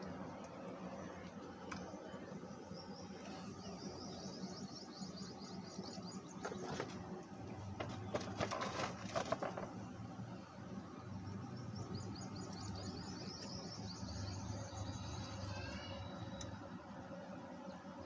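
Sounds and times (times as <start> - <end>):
small birds chirping: 0.3 - 8.1, 9.8 - 18.0.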